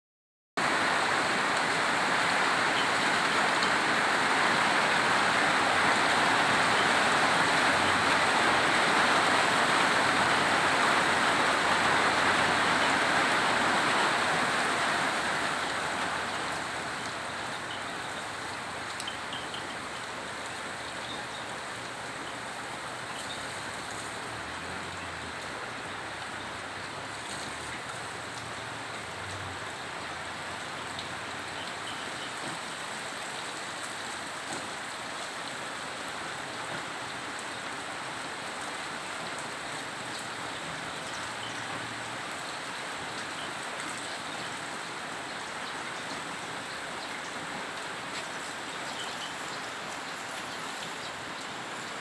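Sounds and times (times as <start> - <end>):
heavy rain falling: 0.6 - 52.0.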